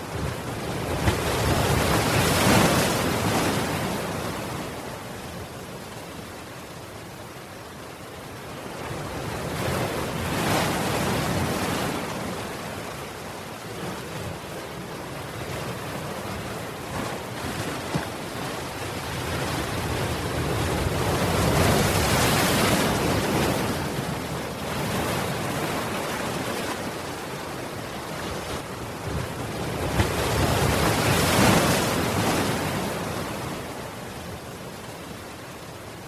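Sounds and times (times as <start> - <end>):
ocean waves breaking: 0.0 - 36.0.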